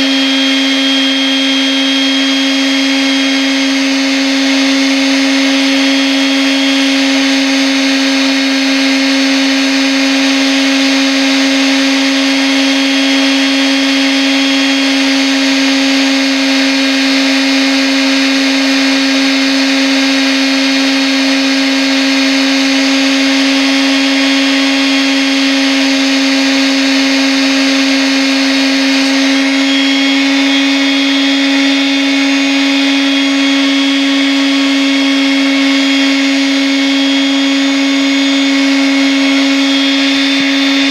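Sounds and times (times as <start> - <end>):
electric sander running: 0.0 - 40.9.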